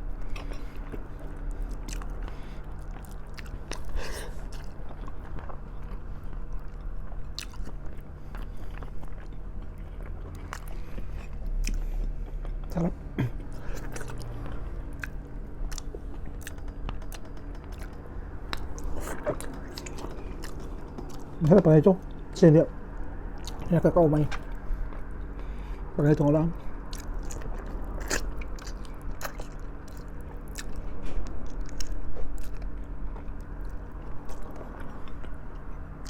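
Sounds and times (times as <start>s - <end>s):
close-miked chewing with crunches: 0.0s - 25.9s, 26.5s - 36.0s.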